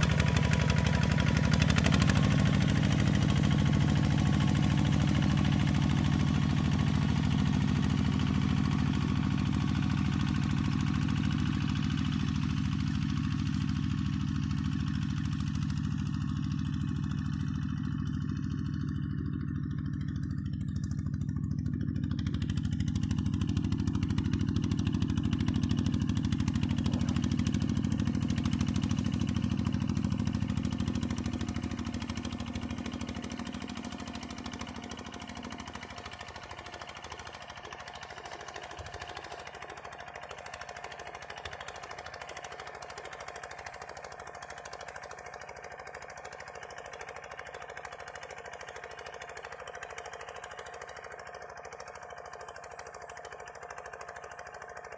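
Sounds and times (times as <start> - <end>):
walking tractor diesel engine: 0.0 - 54.9.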